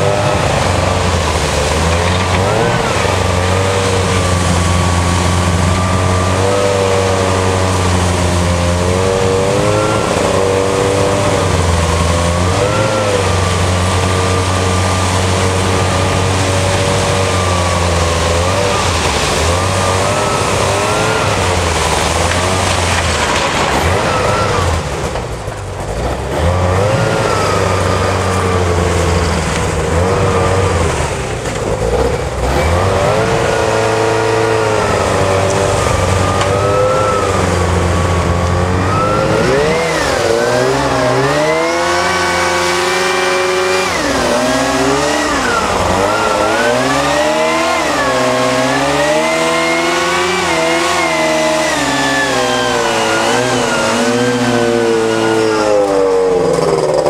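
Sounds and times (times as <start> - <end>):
hovercraft engine and fan running: 0.0 - 57.0.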